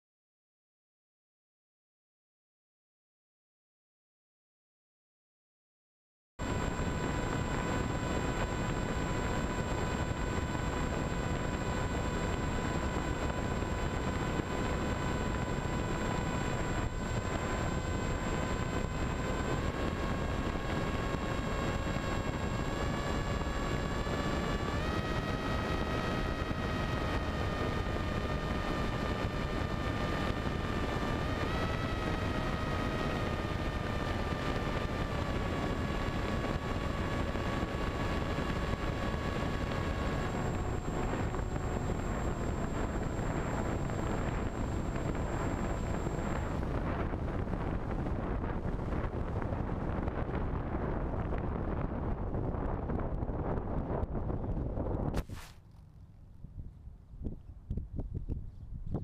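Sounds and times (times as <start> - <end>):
electric motor whine: 6.4 - 55.4
wind rush on microphone: 6.4 - 55.6, 56.2 - 59.0.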